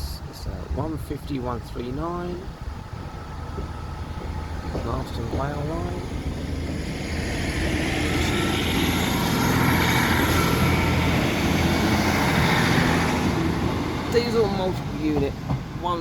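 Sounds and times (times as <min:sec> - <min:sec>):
diesel train engines droning: 0:00.0 - 0:16.0.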